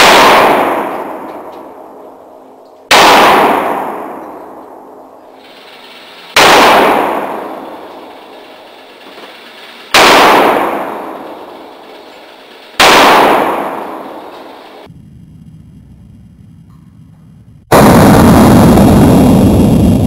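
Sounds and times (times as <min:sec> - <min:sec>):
revolver gunshots echoing indoors: 0:00.0 - 0:19.9.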